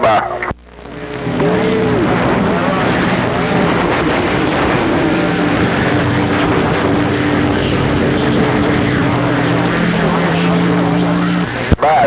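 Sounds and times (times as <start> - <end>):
radio static hiss: 0.0 - 12.0
faint steady whistling tones: 0.2 - 12.0.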